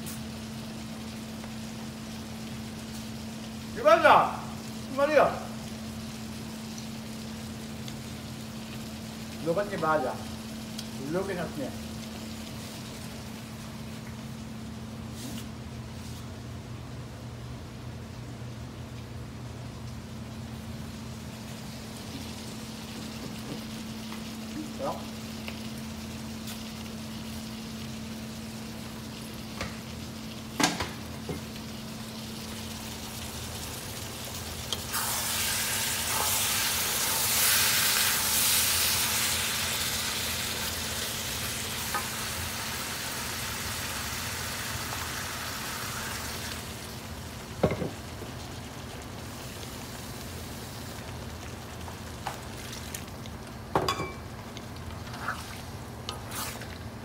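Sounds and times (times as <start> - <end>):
food sizzling in a pan: 0.0 - 16.0, 20.6 - 57.0.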